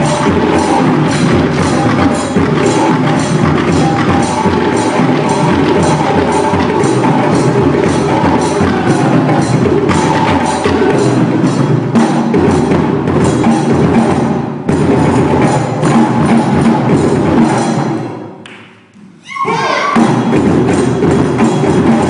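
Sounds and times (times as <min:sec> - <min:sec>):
rhythmic drumming: 0:00.0 - 0:22.0.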